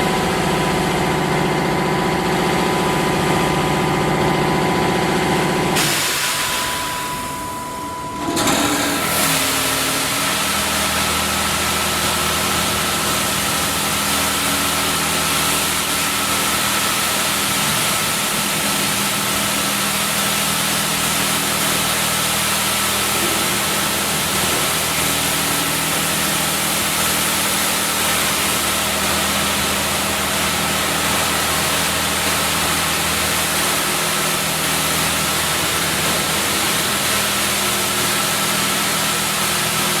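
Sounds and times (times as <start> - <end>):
car wash motor hum: 0.0 - 40.0.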